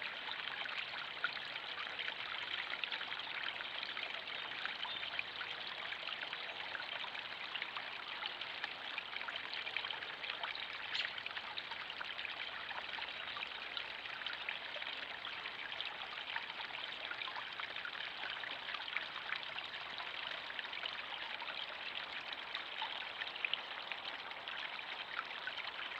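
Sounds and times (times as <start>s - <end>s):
water trickling and splashing: 0.0s - 25.9s.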